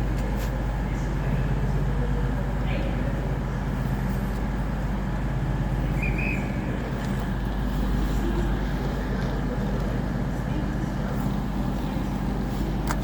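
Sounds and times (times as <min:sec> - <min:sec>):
diesel train engine hum: 0:00.0 - 0:13.0.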